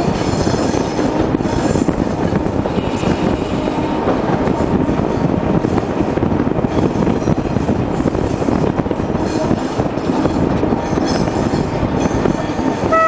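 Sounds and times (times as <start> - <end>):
train wheels rumbling: 0.0 - 13.0
wind on microphone: 0.0 - 13.0.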